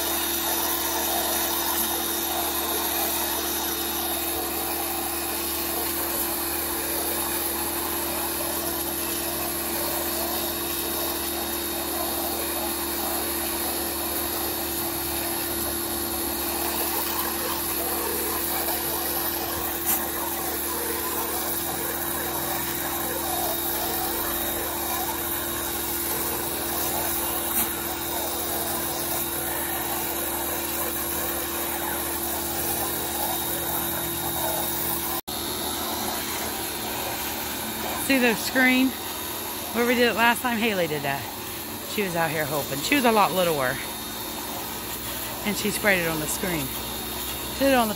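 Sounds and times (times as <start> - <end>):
pressure washer spraying: 0.0 - 47.9.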